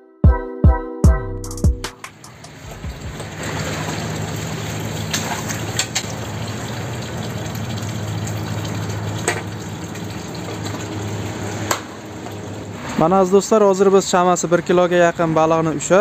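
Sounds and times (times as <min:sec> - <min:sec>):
water gushing from a pipe: 0:02.1 - 0:15.4.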